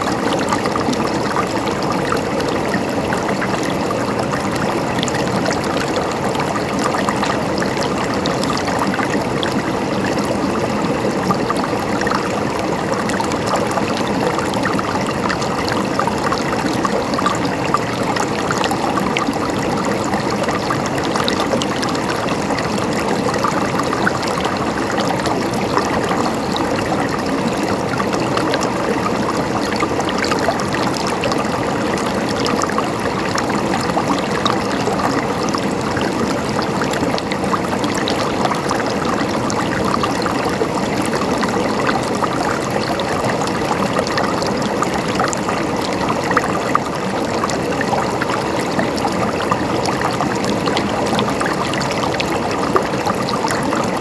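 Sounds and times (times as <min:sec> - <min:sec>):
flowing water gurgling: 0:00.0 - 0:54.0.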